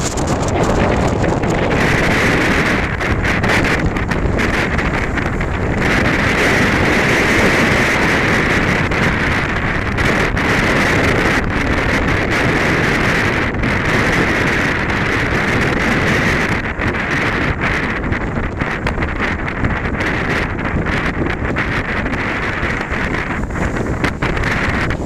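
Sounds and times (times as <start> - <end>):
storm wind roaring: 0.0 - 25.0.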